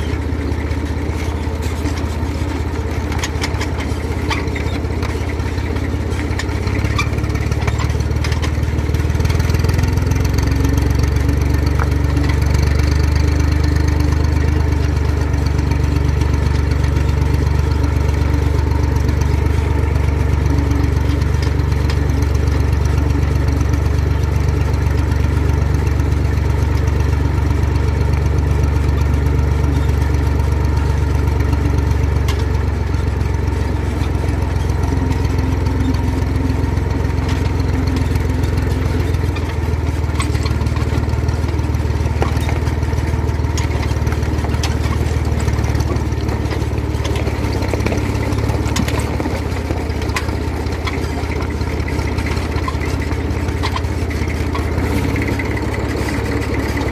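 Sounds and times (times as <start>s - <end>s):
trailer rattling over gravel: 0.0s - 56.9s
vehicle engine under load: 0.0s - 56.9s.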